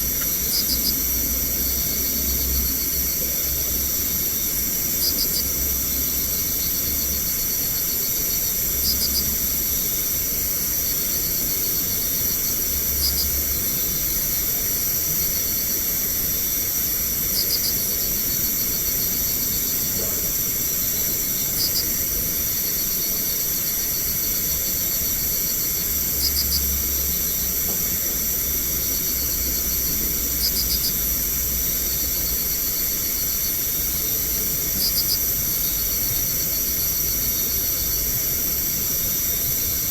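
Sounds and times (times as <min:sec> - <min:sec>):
constant hiss: 0:00.0 - 0:39.9
night insects chorus: 0:00.0 - 0:39.9.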